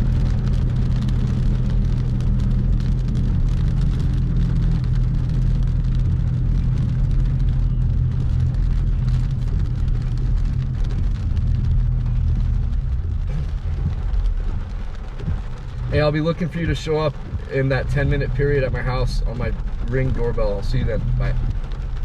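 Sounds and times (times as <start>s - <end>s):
car engine and road noise: 0.0s - 22.0s
rain hitting car: 0.0s - 22.0s.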